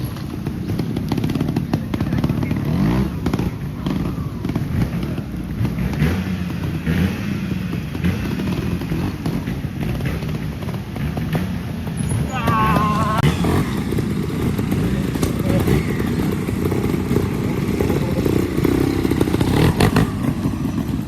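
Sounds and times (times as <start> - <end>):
exhaust pops: 0.0 - 21.0
motorcycle engine revving: 0.0 - 21.0.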